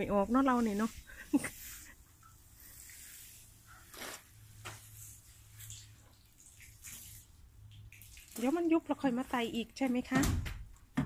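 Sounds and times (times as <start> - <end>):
water sprinkling onto soil: 0.2 - 9.8.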